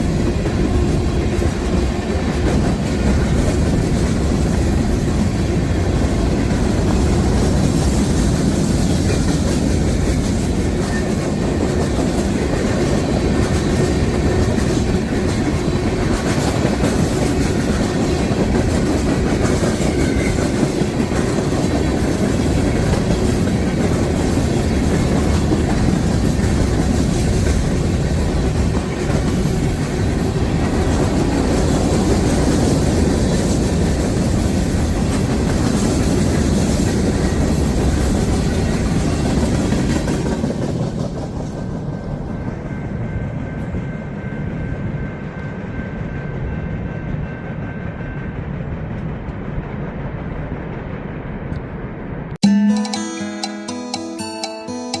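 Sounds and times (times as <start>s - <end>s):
train wheels on rails: 0.0s - 52.3s.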